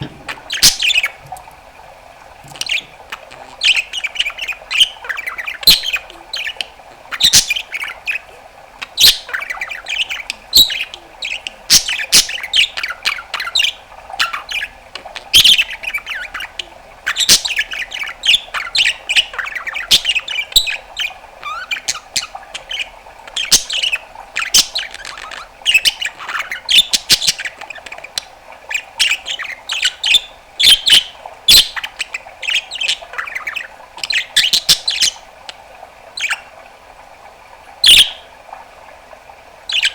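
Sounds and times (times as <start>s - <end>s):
budgerigar warbling and chattering: 0.0s - 1.4s, 2.4s - 35.2s, 37.8s - 38.2s, 39.7s - 39.9s.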